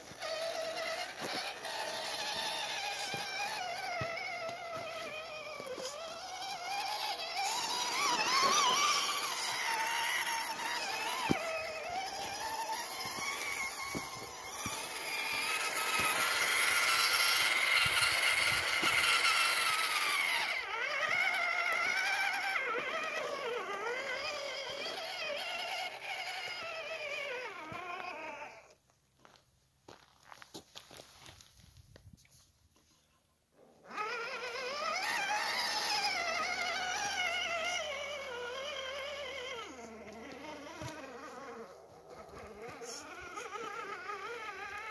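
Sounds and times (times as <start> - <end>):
electric motor and gearbox whining: 0.0 - 28.8, 33.6 - 44.9.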